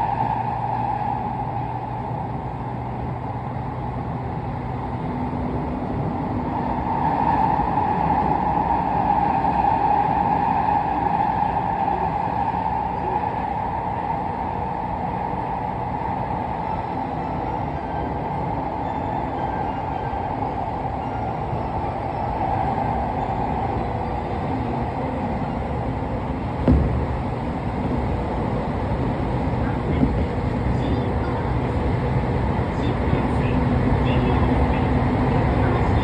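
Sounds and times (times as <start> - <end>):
electric train running: 0.0 - 36.0.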